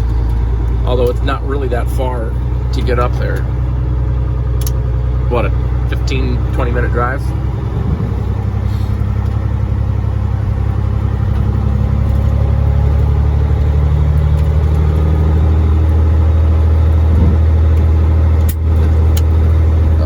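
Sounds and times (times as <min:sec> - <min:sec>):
diesel truck engine drone: 0:00.0 - 0:20.0.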